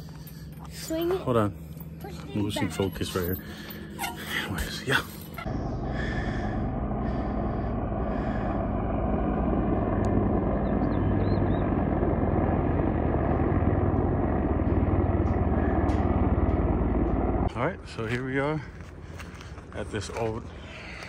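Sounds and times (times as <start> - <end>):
engine rumble: 0.0 - 21.0.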